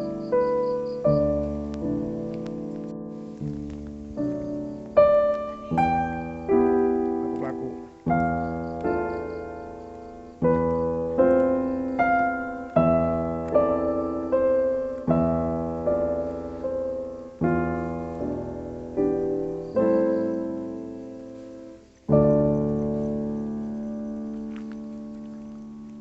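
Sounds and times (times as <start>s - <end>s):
slow piano chords: 0.0s - 26.0s.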